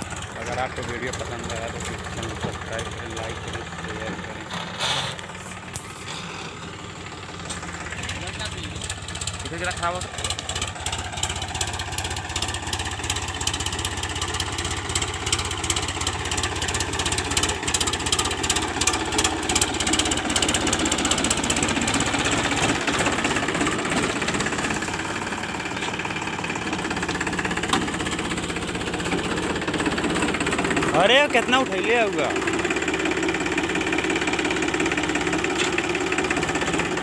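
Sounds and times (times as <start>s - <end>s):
rapid engine clatter: 0.0s - 37.0s
tractor diesel engine running: 0.0s - 37.0s.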